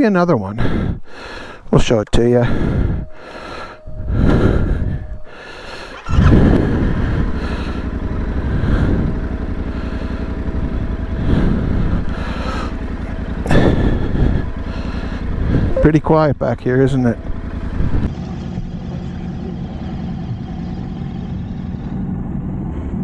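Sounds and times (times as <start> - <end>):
motorcycle engine starting and revving: 0.6 - 23.0.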